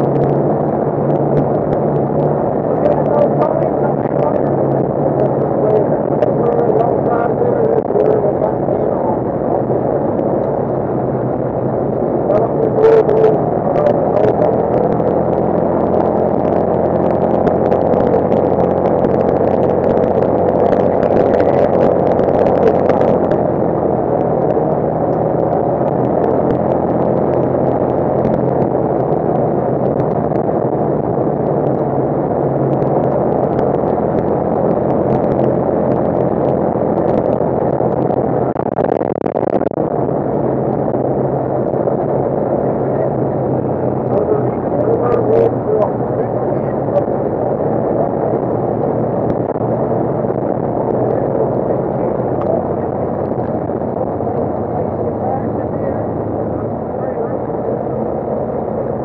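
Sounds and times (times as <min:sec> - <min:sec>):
engine drone: 0:00.0 - 0:59.0
sharp clicks and rattles: 0:00.0 - 0:59.0.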